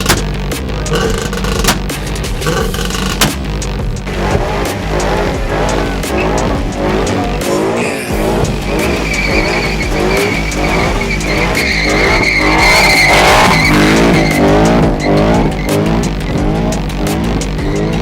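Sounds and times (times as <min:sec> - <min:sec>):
tyre squeal: 0:00.0 - 0:03.3, 0:04.1 - 0:16.6
car engine revving: 0:00.0 - 0:18.0.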